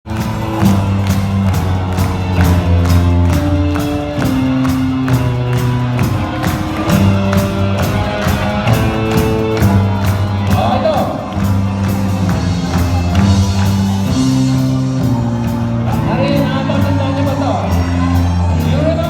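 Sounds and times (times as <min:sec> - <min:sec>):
live band playing disco: 0:00.1 - 0:19.0.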